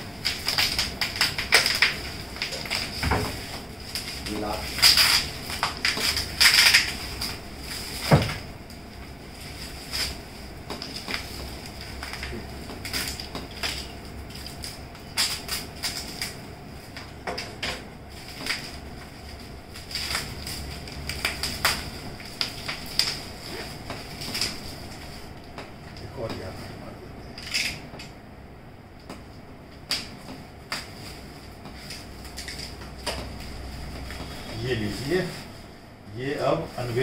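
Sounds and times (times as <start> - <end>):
plastic wrapping crackling: 0.0 - 26.6, 29.8 - 37.0.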